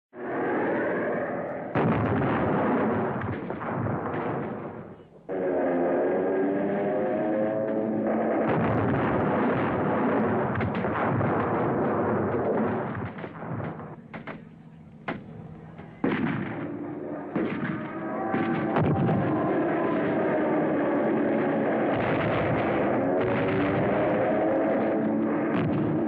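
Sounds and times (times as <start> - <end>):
explosions: 0.2 - 26.0
sharp crack: 1.6 - 26.0
gunfire: 1.7 - 26.0.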